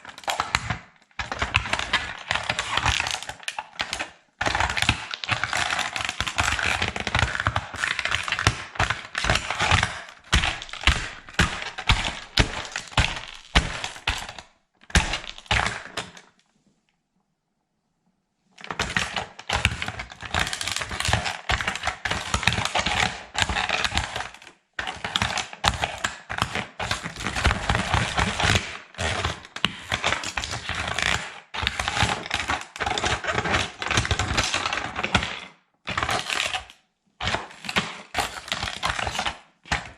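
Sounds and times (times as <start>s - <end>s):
plastic toy cracking underfoot: 0.0s - 16.4s, 18.6s - 39.9s.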